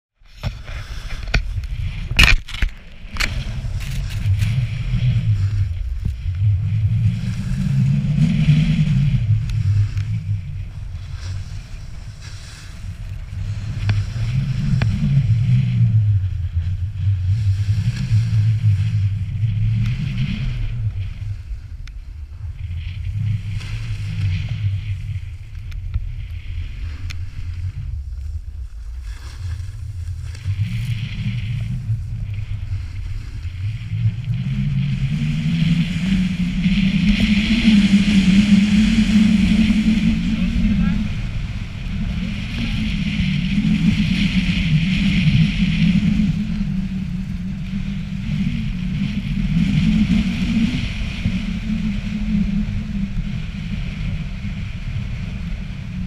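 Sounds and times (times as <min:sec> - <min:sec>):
snowboard scraping on snow: 0:00.2 - 0:55.9
wind rumble on microphone: 0:00.2 - 0:56.0.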